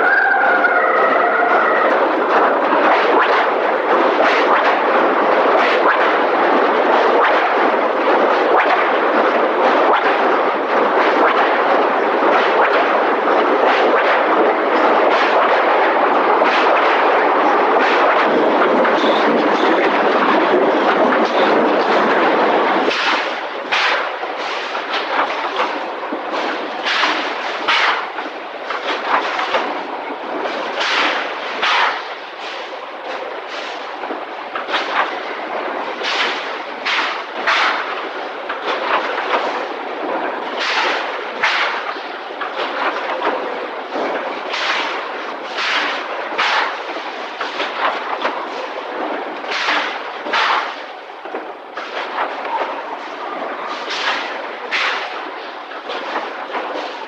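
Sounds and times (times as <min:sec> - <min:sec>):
machinery rattling: 0:00.0 - 0:57.0.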